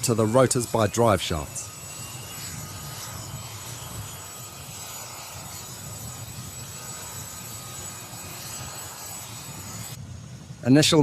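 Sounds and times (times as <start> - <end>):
helicopter rotor throb: 0.0 - 11.0
helicopter turbine hiss and whine: 0.0 - 11.0.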